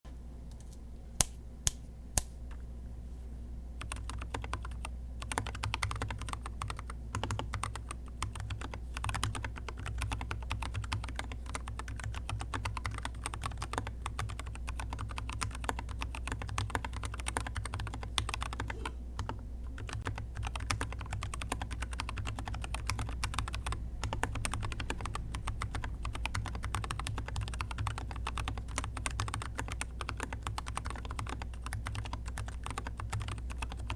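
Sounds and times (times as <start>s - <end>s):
low steady hum: 0.1s - 33.9s
typing on mechanical keyboard: 3.8s - 33.9s.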